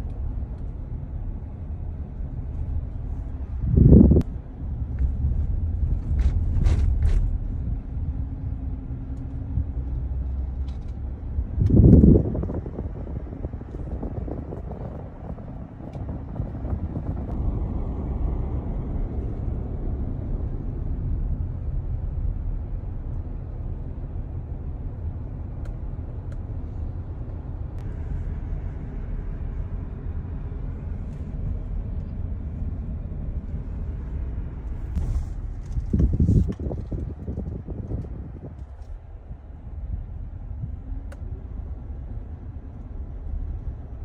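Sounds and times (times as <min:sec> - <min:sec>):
car driving rumble: 0:00.0 - 0:44.0
road and wind noise: 0:00.0 - 0:44.0.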